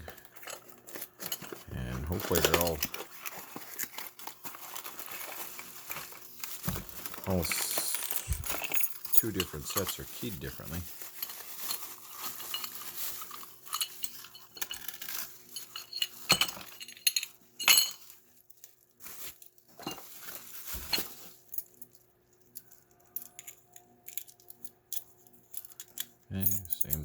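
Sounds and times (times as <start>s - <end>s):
small metal parts clinking: 0.0s - 27.0s.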